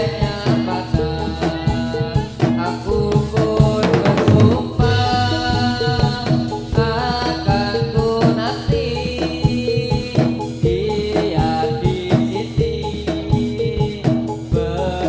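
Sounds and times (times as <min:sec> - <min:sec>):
drum strokes: 0:00.0 - 0:15.0
metallophone melody: 0:00.0 - 0:15.0.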